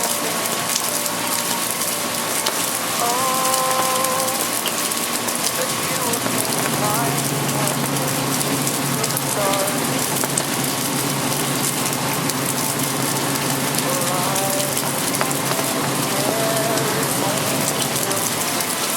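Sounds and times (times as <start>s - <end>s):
low steady hum: 0.0s - 18.9s
rain pattering on street: 0.0s - 18.9s.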